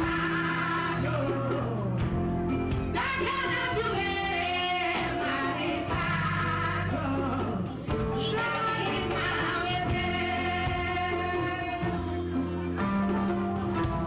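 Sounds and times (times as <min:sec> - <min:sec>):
women singing: 0:00.0 - 0:02.2, 0:02.9 - 0:12.1
live band music: 0:00.0 - 0:14.0.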